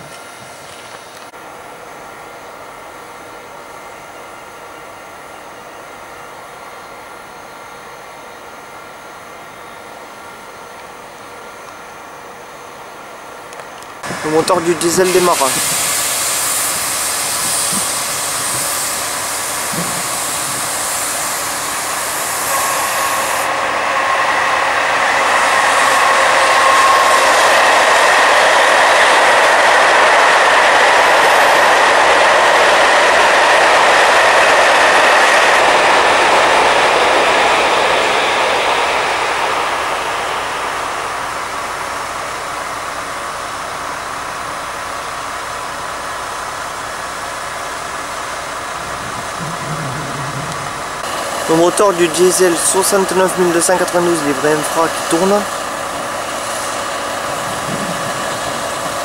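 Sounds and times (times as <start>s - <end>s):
diesel locomotive engine running: 0.0s - 59.0s
passenger train passing: 0.0s - 59.0s.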